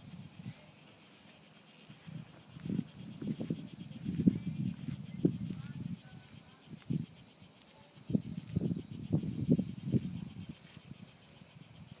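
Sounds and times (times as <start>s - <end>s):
cicadas chorus: 0.0s - 12.0s.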